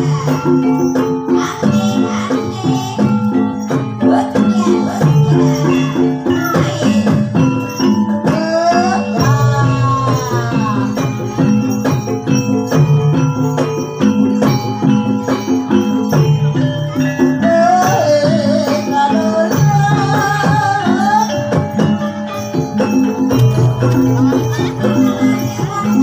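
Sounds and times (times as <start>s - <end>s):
drum and percussion beats: 0.0s - 26.0s
metallophones ringing: 0.0s - 26.0s
wavering held melody: 0.0s - 26.0s.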